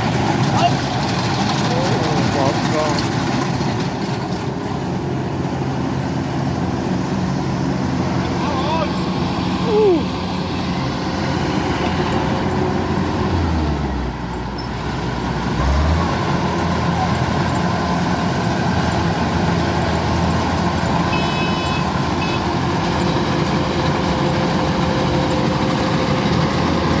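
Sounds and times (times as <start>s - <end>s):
combine harvester droning: 0.0s - 27.0s.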